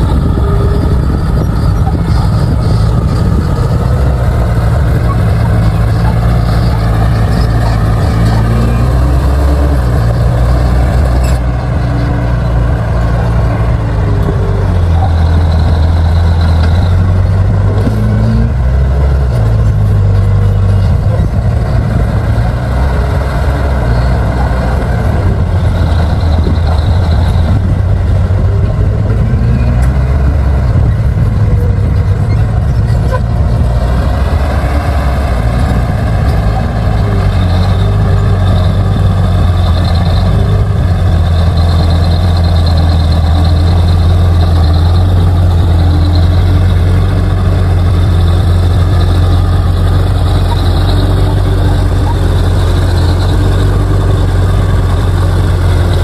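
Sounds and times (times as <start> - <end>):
bulldozer diesel engine droning: 0.0 - 56.0.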